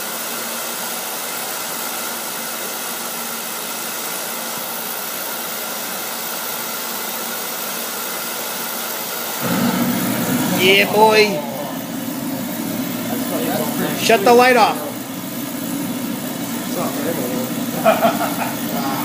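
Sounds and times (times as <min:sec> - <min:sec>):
oil burner roaring: 0:00.0 - 0:19.0.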